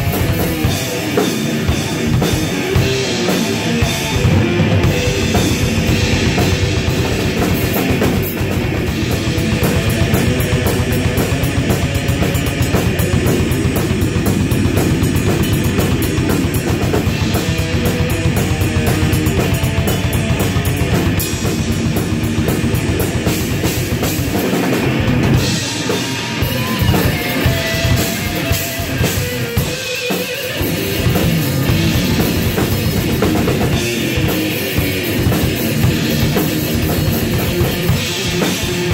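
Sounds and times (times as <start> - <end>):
dense busy drumming: 0.0 - 38.9
electric guitar: 0.0 - 38.9.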